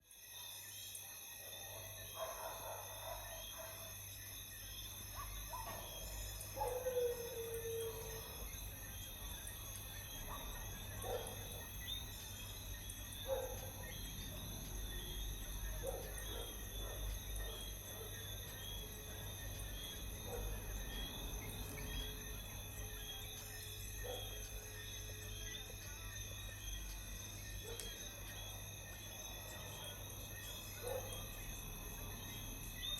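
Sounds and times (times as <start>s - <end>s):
insects trilling and chirping: 0.0s - 32.9s.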